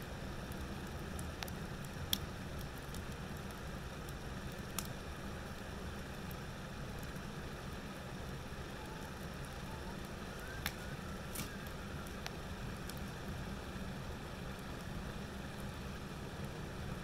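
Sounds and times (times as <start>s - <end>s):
fire crackling pops: 0.0s - 17.0s
wood fire burning: 0.0s - 17.0s.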